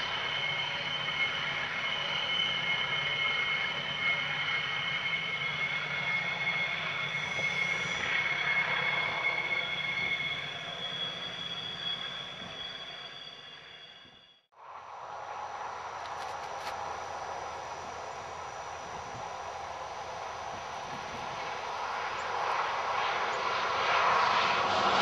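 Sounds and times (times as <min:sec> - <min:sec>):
diesel locomotive engines: 0:00.0 - 0:25.0
steady high whine: 0:00.0 - 0:25.0.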